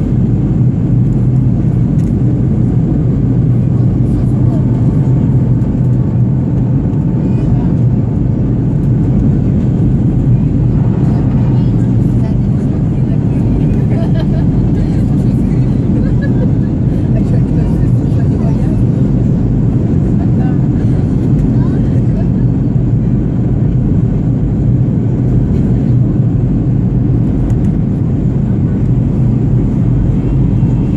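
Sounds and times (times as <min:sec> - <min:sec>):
airplane engines droning: 0:00.0 - 0:30.9
deep hum: 0:00.0 - 0:30.9.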